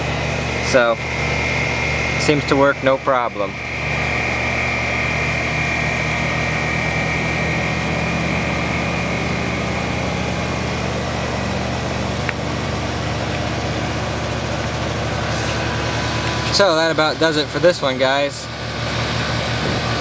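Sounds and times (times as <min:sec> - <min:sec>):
heat pump compressor hum: 0:00.0 - 0:20.0
high whine: 0:00.0 - 0:20.0.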